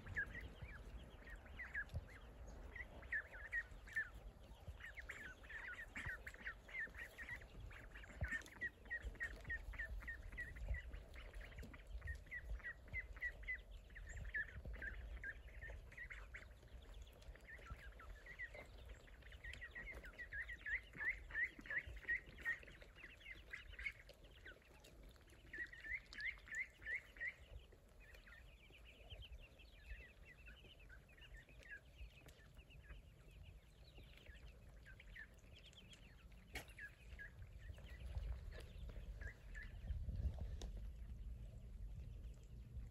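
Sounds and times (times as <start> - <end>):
ducklings peeping: 0.0 - 42.9.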